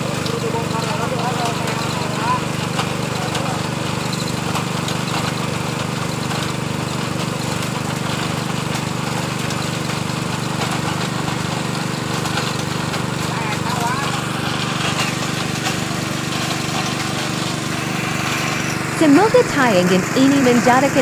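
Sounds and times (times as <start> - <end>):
drilling rig engine humming: 0.0 - 7.9, 8.6 - 21.0.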